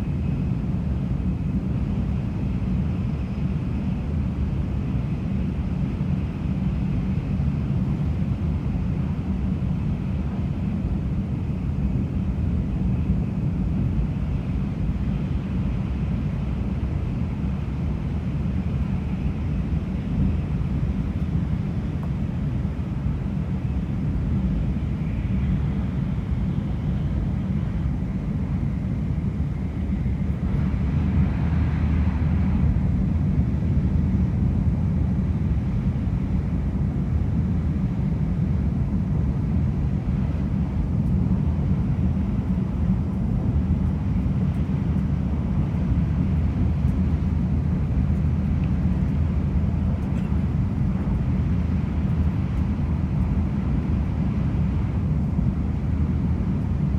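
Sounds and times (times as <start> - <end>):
train rumbling inside car: 0.0 - 56.9.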